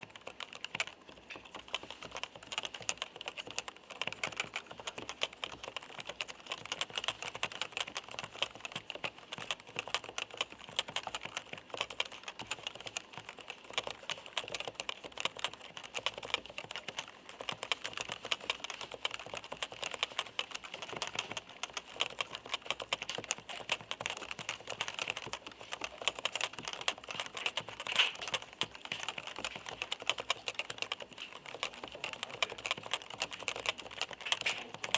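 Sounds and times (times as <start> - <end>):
keyboard typing: 0.0 - 34.9.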